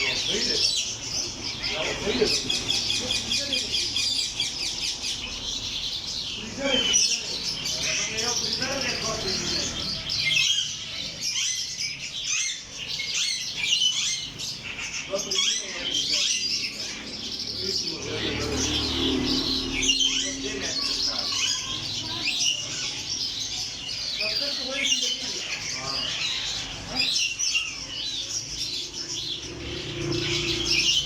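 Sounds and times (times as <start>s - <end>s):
small birds chirping and twittering: 0.0s - 31.0s.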